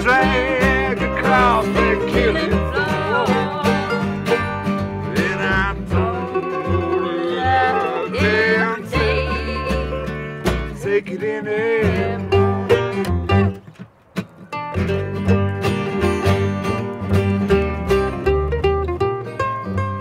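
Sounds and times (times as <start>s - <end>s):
acoustic guitar: 0.0s - 20.0s
mandolin: 0.0s - 20.0s
plucked upright bass: 0.0s - 20.0s.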